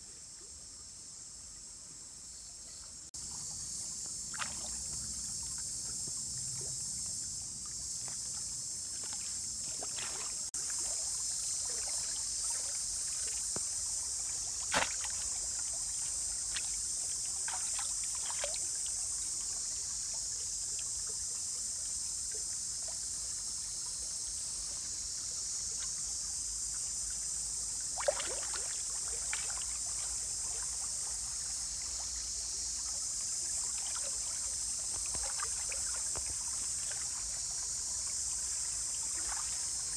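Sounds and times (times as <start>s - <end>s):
stream water splashing: 3.2s - 39.9s.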